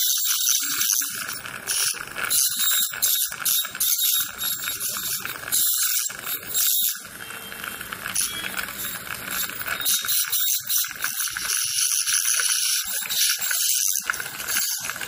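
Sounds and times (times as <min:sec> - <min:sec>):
ultrasonic dental tool hissing: 0:00.0 - 0:07.1, 0:08.1 - 0:15.0.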